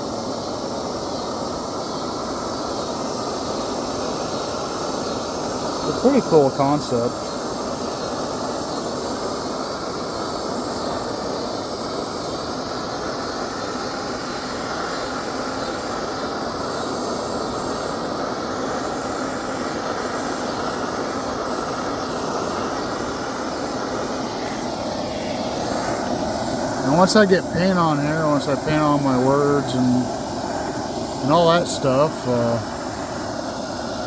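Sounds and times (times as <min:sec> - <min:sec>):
torch flame hissing: 0:00.0 - 0:34.0.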